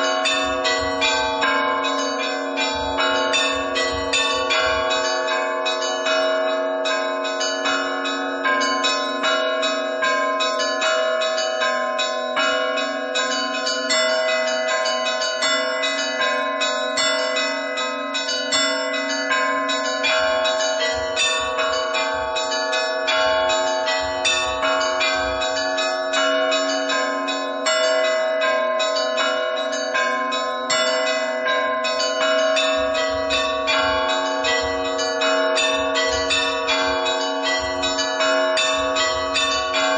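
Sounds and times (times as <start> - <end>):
church bells rung quickly: 0.0 - 39.9
larger bells ringing: 0.0 - 39.9.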